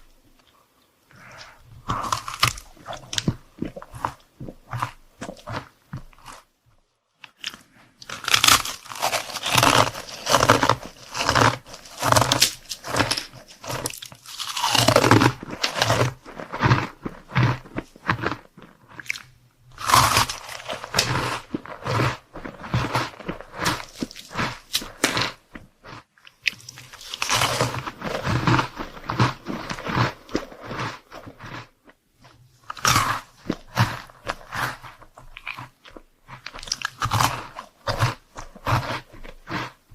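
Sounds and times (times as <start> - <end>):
crunchy chewing: 0.0 - 6.6, 7.2 - 39.9.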